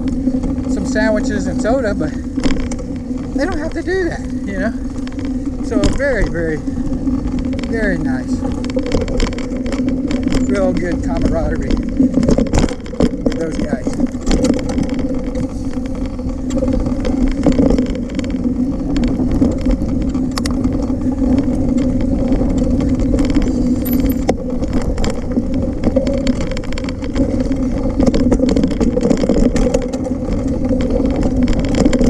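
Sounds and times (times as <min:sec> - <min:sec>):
bike rattling over bumps: 0:00.0 - 0:32.0
bike tyre rumble on dirt: 0:00.0 - 0:32.0
low hum of moving bike: 0:00.0 - 0:32.0.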